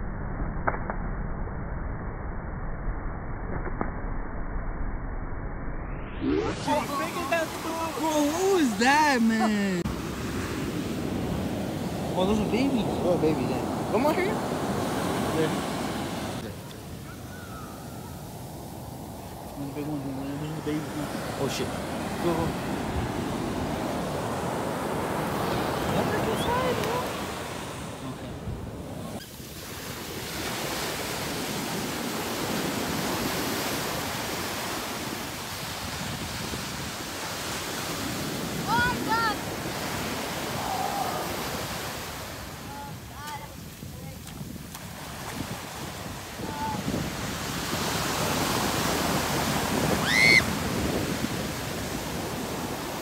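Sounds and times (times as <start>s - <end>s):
ocean waves breaking on beach: 6.2s - 53.0s.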